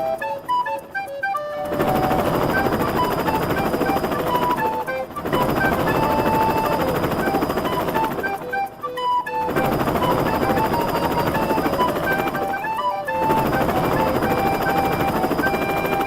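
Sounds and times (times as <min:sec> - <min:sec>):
cartoon propeller whirring rattle: 0:00.0 - 0:16.0
light melodic tune: 0:00.0 - 0:16.0.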